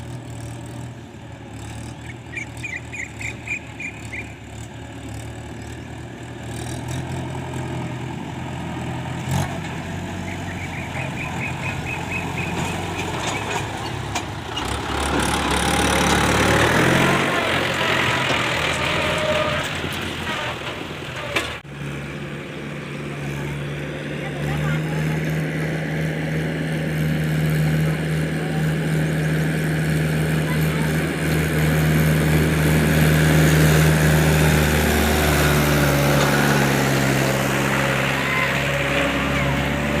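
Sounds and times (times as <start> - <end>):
diesel engine under load: 0.0 - 40.0.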